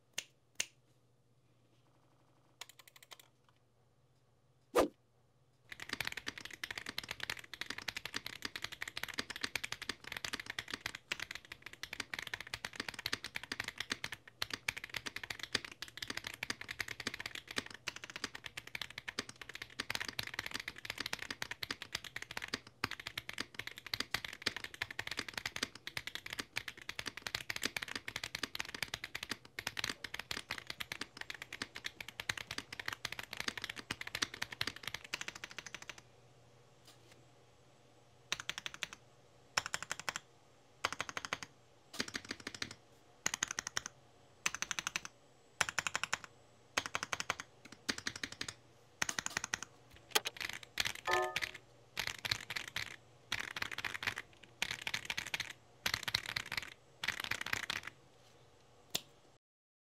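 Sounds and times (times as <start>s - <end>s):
mechanical keyboard typing: 2.6s - 3.3s, 5.7s - 36.0s, 38.3s - 39.0s, 39.6s - 40.2s, 40.8s - 57.9s.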